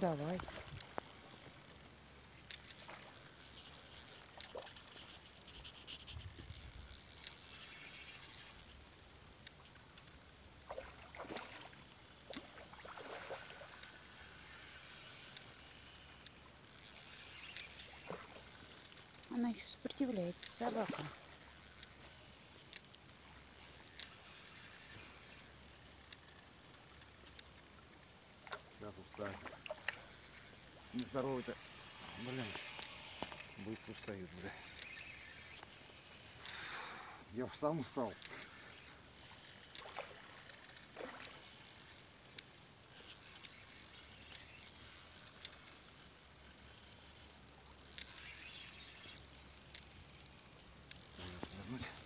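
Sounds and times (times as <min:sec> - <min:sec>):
high-pitched insect chirring: 0:00.0 - 0:52.0
sharp clicks: 0:00.3 - 0:10.4, 0:13.7 - 0:20.8, 0:21.4 - 0:27.7, 0:28.5 - 0:52.0.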